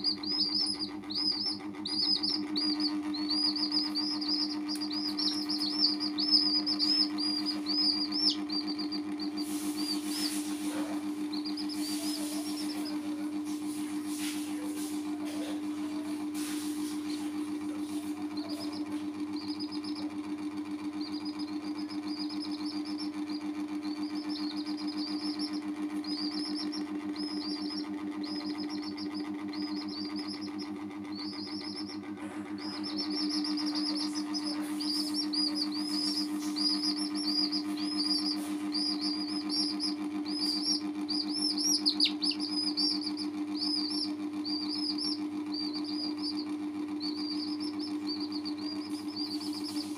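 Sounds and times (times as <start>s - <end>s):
baby chicks peeping: 0.0s - 49.9s
steady low hum: 0.0s - 49.9s.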